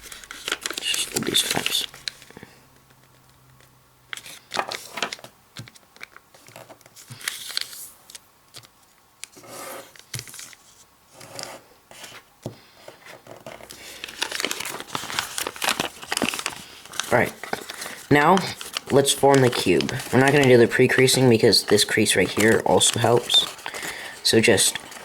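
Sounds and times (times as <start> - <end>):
paper crease snaps: 0.0 - 10.6, 13.6 - 25.0
paper crinkling: 0.0 - 12.2, 12.8 - 25.0.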